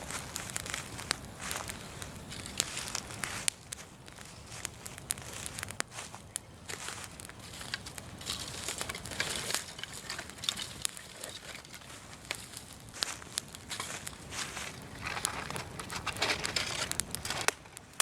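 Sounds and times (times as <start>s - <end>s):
leaf bonfire crackling: 0.0s - 18.0s
leaves rustling: 0.0s - 18.0s
sharp fire pops: 0.0s - 18.0s.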